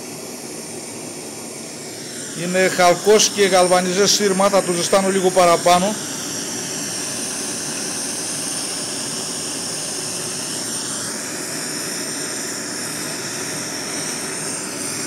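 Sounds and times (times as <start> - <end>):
propane torch flame hissing: 0.0 - 15.0.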